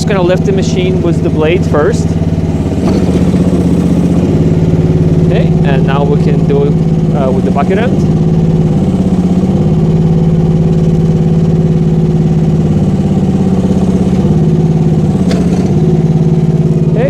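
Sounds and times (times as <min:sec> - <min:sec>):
excavator engine running: 0:00.0 - 0:17.0
hydraulics pressing bucket: 0:00.0 - 0:17.0.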